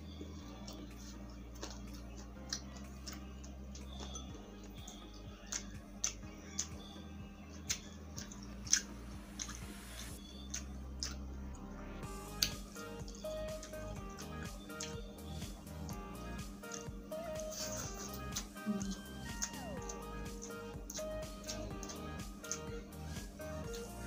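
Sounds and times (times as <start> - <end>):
faint background music: 0.0 - 24.0
chewing: 0.1 - 11.6, 12.3 - 15.4, 16.6 - 24.0.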